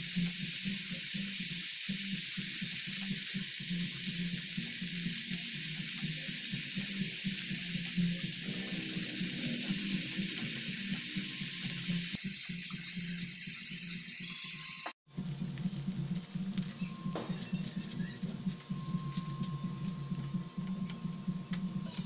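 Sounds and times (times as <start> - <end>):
meat and vegetables sizzling in pan: 0.0 - 18.1.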